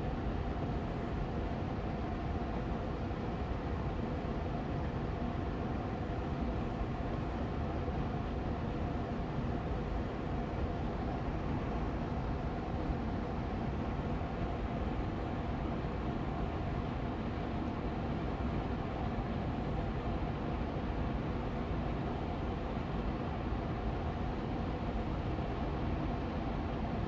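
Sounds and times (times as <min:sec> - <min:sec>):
air purifier fan running: 0:00.0 - 0:27.0.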